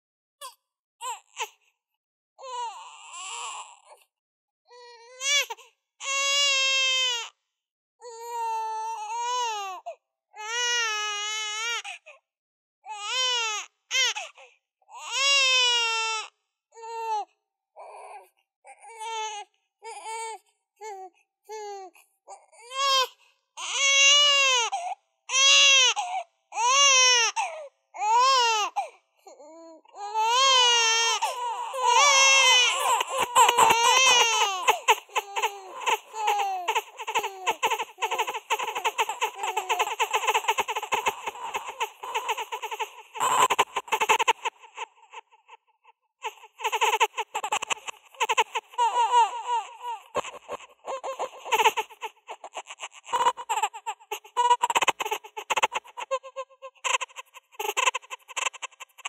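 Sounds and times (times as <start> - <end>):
baby crying: 2.4 - 4.0, 4.7 - 7.3, 8.0 - 12.0, 14.9 - 45.6, 46.2 - 59.0.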